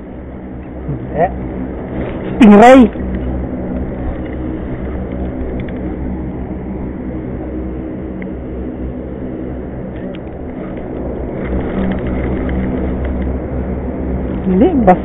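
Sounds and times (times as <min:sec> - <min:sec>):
low rumble with droning hum: 0:00.0 - 0:15.0.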